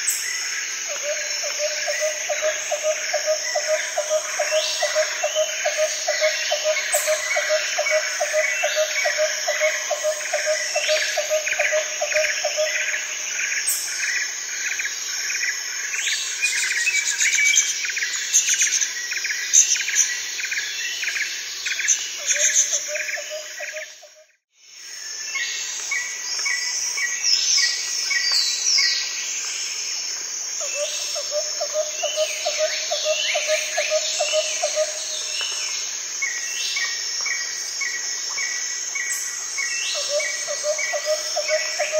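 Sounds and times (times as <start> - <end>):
insects chirping: 0.0 - 41.9.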